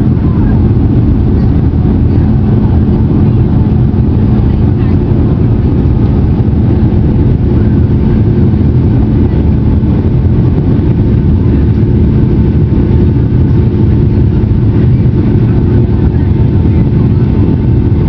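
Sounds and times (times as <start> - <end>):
constant hum: 0.0 - 18.0
jet engines rumbling in cabin: 0.0 - 18.0.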